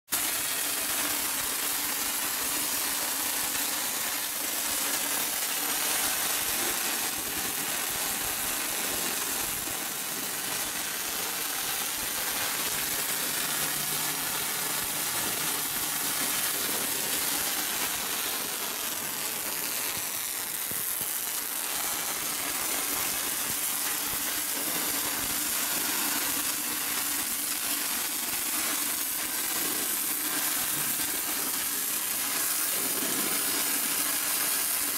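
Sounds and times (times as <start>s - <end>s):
arc welding torches hissing: 0.2s - 34.9s.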